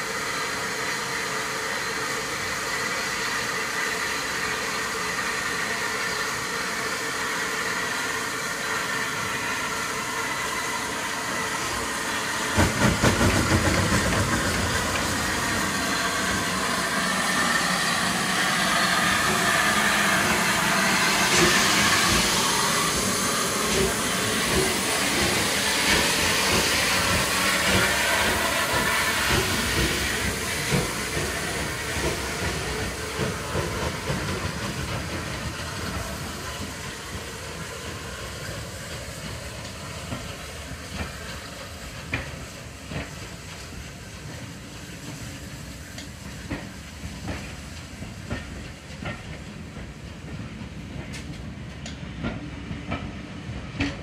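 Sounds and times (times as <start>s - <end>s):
steam locomotive chuffing: 0.0s - 54.0s
steam locomotive hissing steam: 0.0s - 54.0s.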